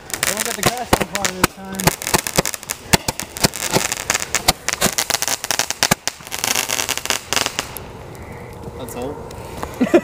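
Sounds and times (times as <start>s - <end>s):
firework crackling pops: 0.0s - 8.6s.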